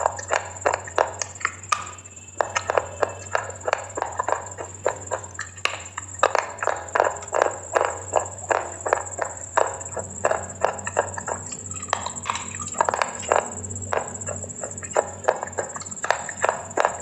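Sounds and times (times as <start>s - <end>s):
person crunchy chewing: 0.0s - 17.0s.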